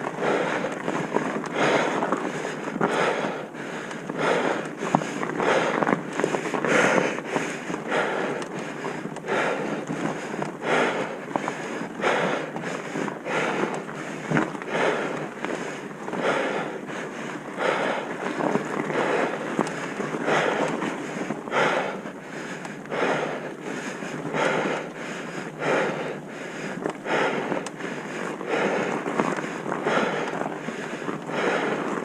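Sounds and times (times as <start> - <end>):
skis swishing on snow: 0.1 - 32.0.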